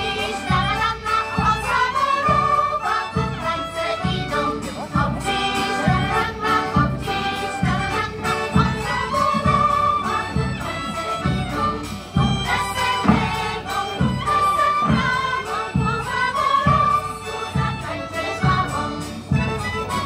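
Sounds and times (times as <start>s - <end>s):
band playing steady beat: 0.0s - 20.0s
women's choir singing: 0.0s - 20.0s.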